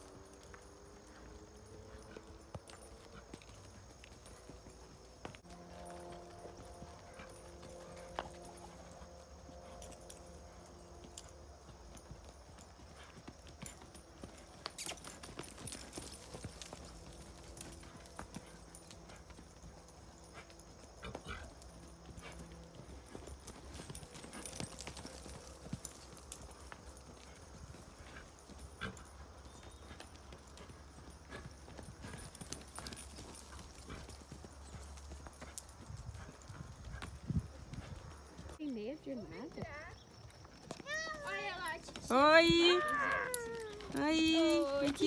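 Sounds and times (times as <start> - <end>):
horse hoofbeats on soft sand: 0.0 - 45.0.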